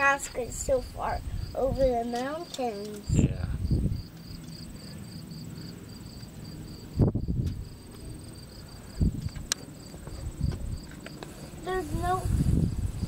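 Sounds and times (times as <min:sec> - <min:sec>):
high insect trill: 0:00.0 - 0:13.0
insects chirping: 0:00.0 - 0:13.0.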